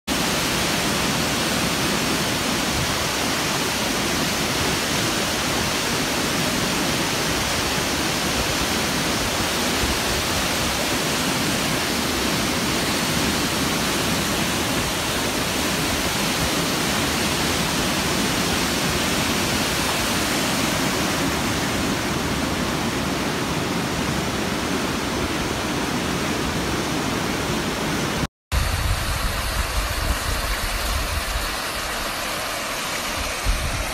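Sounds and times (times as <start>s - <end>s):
waterfall rushing roar: 0.1s - 33.9s.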